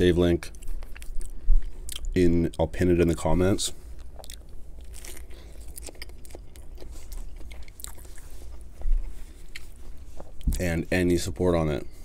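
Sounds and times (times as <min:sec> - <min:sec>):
chewing a sandwich: 0:00.4 - 0:10.7.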